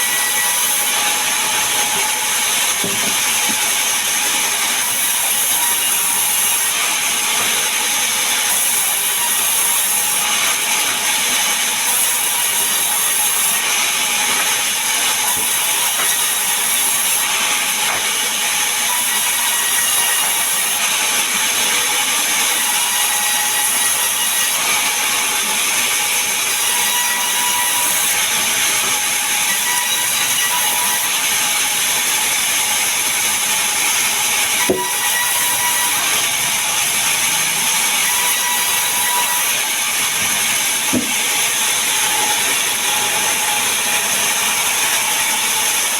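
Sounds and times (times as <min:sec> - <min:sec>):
power saw cutting wood: 0:00.0 - 0:45.9.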